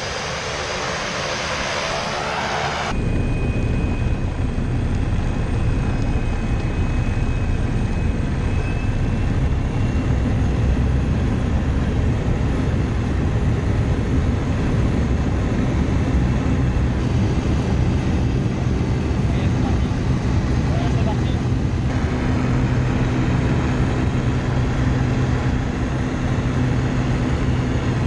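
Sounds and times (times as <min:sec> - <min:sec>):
turboprop engine and propeller: 0:00.0 - 0:28.0.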